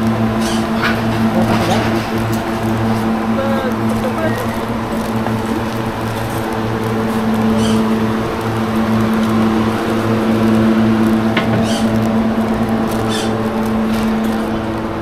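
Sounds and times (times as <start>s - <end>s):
machine humming and throbbing: 0.0s - 15.0s.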